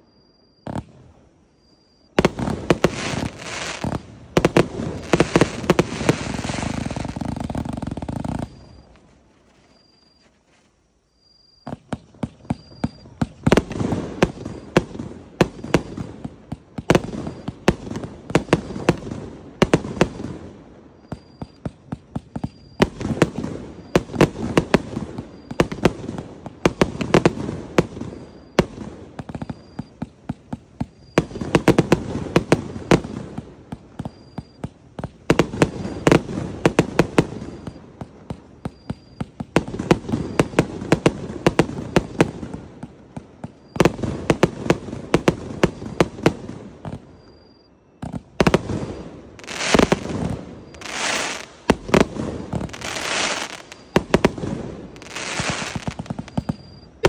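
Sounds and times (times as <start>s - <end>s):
fireworks bangs: 0.6s - 9.1s, 11.6s - 57.0s
fireworks crackle: 2.1s - 10.8s, 11.6s - 57.0s.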